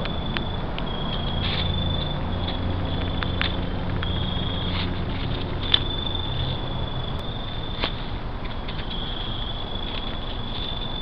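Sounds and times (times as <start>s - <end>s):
high-pitched whine: 0.0s - 11.0s
low hum: 0.0s - 11.0s.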